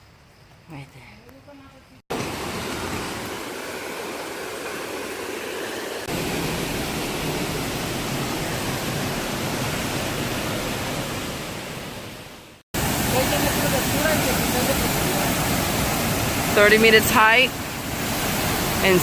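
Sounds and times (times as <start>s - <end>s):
waterfall rushing: 2.1s - 19.0s.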